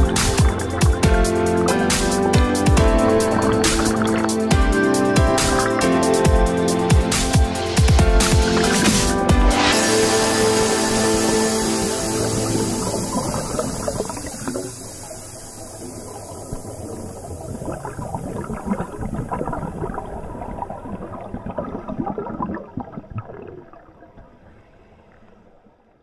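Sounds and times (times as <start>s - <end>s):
underwater air bubbling: 0.0s - 24.8s.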